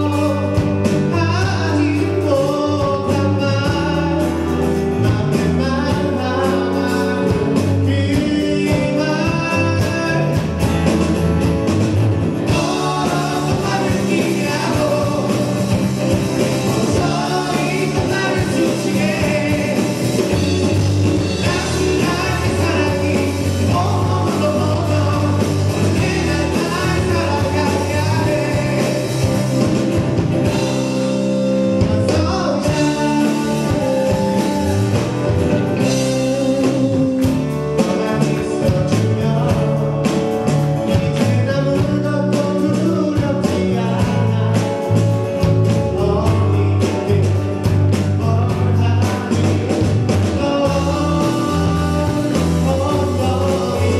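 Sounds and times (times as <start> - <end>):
lead vocal singing: 0.0 - 10.8, 12.3 - 53.9
rock band playing: 0.0 - 53.9.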